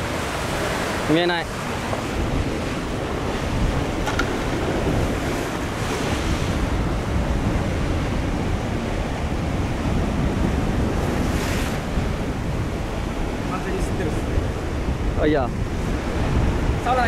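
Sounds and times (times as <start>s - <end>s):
surf breaking on rocks: 0.0s - 14.7s
wind buffeting microphone: 0.0s - 17.0s.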